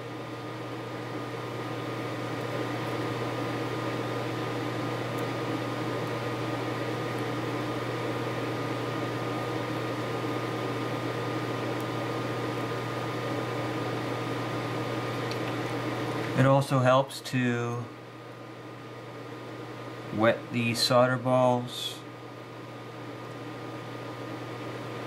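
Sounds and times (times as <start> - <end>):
fan motor humming with whine: 0.0 - 25.0.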